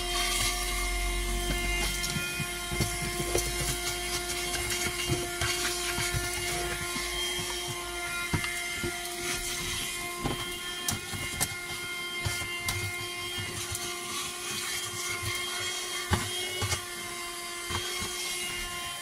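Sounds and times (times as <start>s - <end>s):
handheld vacuum whining: 0.0s - 19.0s.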